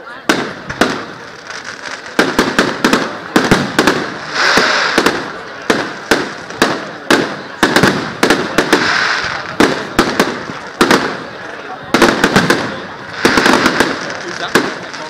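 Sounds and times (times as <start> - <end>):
fireworks bangs: 0.2 - 15.0
fireworks hiss: 0.3 - 11.3, 12.0 - 15.0.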